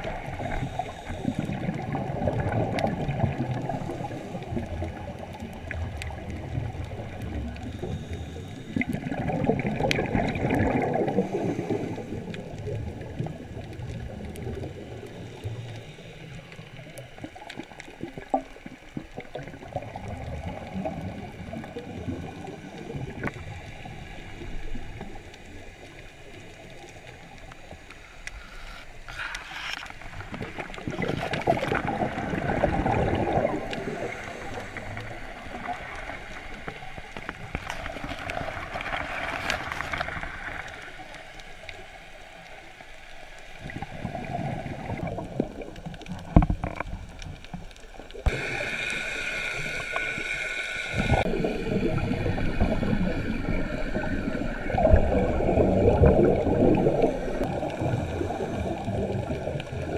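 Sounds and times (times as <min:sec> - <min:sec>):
muffled underwater water noise: 0:00.0 - 0:59.9.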